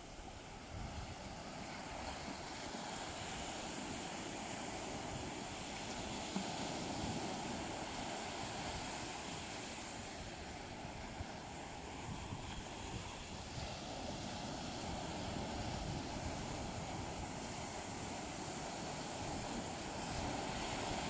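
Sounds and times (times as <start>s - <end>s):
small waves breaking on shore: 0.0s - 21.0s.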